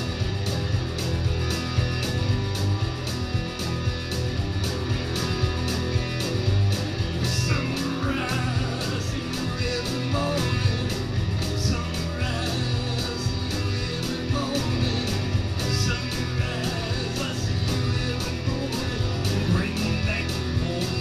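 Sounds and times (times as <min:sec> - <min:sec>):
drum beat: 0:00.0 - 0:21.0
electric guitars playing rock: 0:00.0 - 0:21.0.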